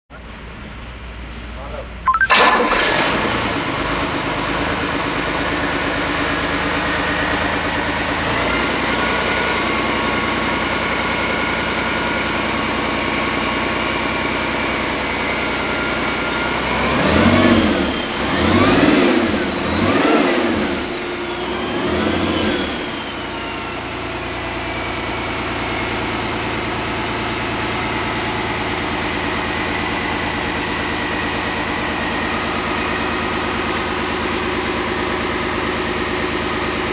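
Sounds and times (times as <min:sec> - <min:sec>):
diesel engine idling and revving: 0:00.1 - 0:36.9.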